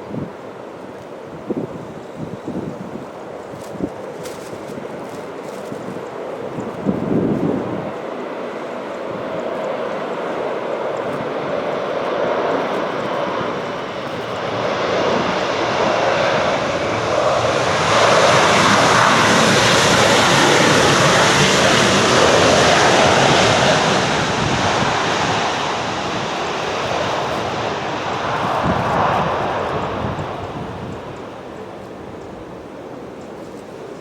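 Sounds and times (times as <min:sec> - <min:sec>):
jet airliner engines passing: 0:00.0 - 0:34.0.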